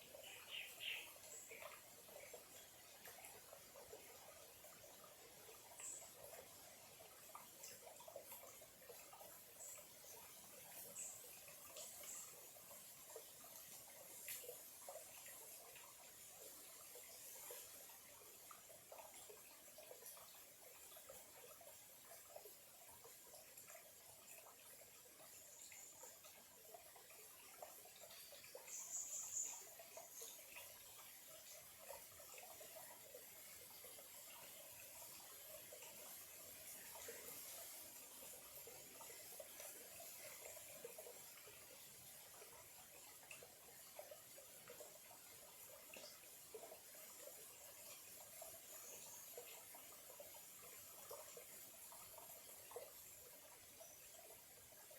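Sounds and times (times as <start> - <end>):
light steady hiss: 0.0 - 54.9
stream trickling and gurgling: 0.0 - 54.9.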